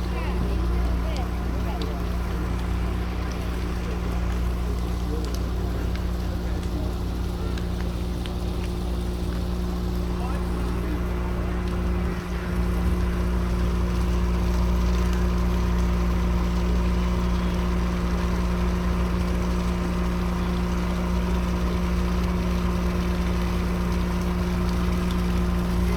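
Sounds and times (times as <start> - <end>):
engine droning steadily: 0.0 - 25.9.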